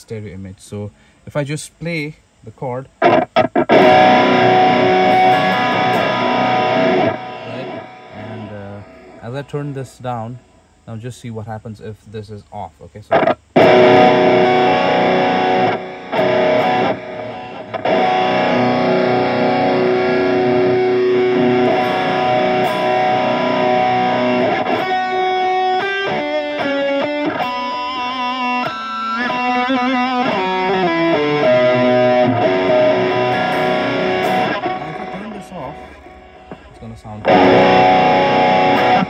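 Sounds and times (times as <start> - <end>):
distorted electric guitar: 2.9 - 10.6, 13.1 - 39.0.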